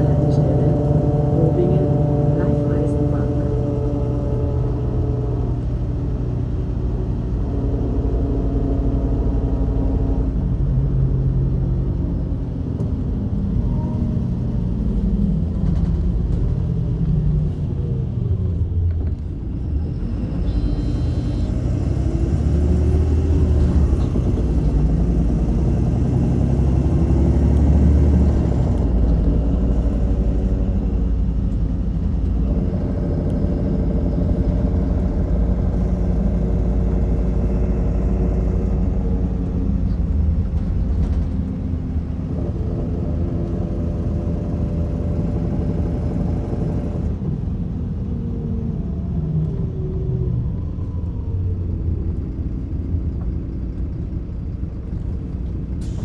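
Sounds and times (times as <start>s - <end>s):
bus diesel engine: 0.0s - 56.0s
road rumble: 0.0s - 56.0s.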